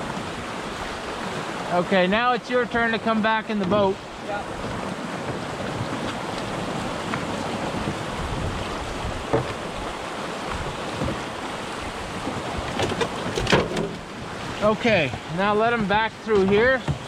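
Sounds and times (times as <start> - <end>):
river floodwater rushing: 0.0 - 17.0.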